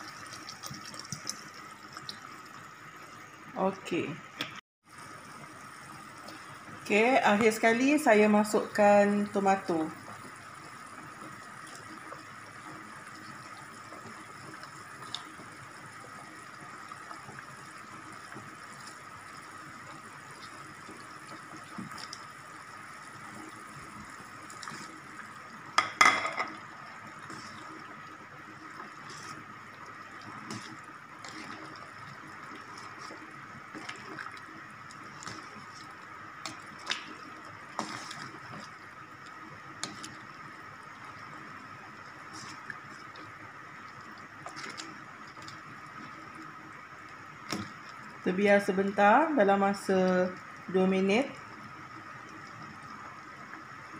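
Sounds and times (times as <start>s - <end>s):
soup simmering and bubbling: 0.0s - 3.5s, 4.8s - 53.9s.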